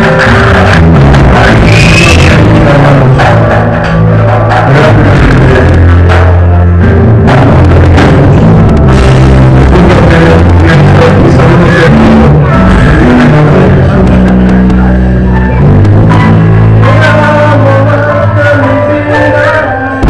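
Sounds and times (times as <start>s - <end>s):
bass guitar low notes: 0.0s - 20.0s
drum kit beats: 0.0s - 20.0s
electric guitar: 0.0s - 20.0s.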